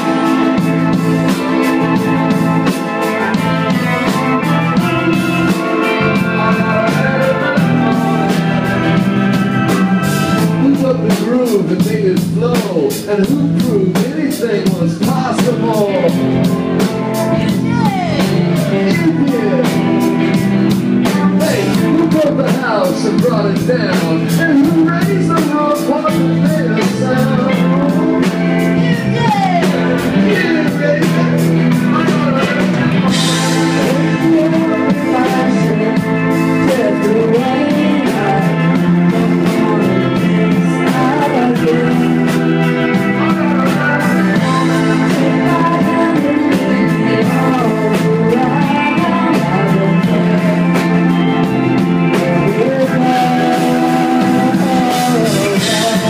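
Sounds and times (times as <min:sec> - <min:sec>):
bass: 0:00.0 - 0:56.0
keyboard chords: 0:00.0 - 0:56.0
lead guitar bending notes: 0:00.0 - 0:56.0.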